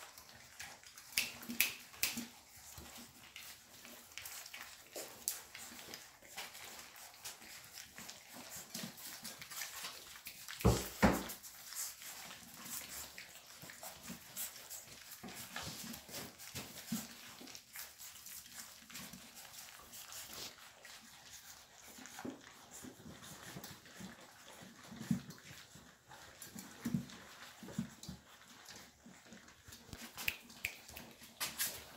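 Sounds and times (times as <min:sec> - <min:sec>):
puppies lapping and chewing: 0:00.0 - 0:31.9.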